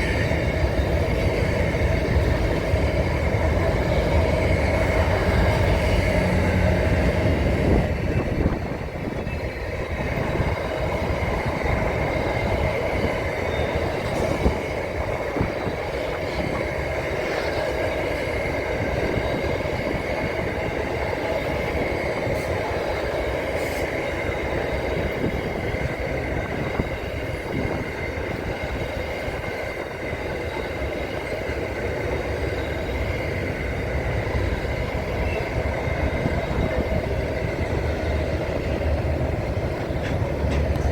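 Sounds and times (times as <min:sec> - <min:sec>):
train rumbling on rails: 0:00.0 - 0:40.9.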